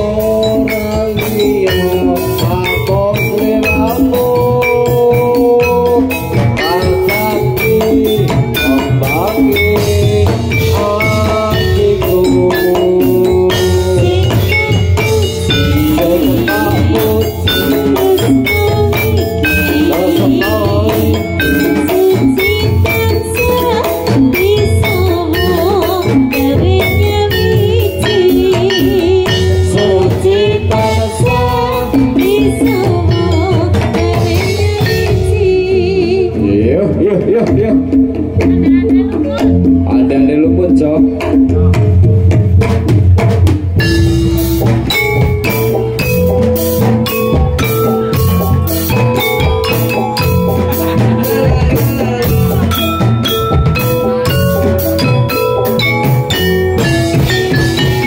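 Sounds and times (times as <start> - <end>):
mallet-struck metal keys: 0.0 - 35.8, 37.4 - 58.0
metallophone tones: 0.0 - 36.6, 43.7 - 58.0
gamelan music: 0.0 - 58.0
steady drum beat: 0.0 - 58.0.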